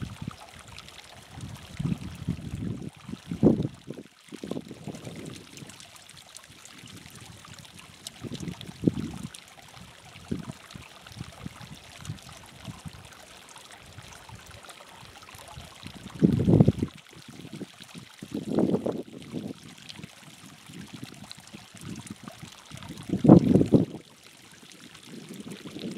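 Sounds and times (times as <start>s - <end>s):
water trickling over rock: 0.0s - 25.9s.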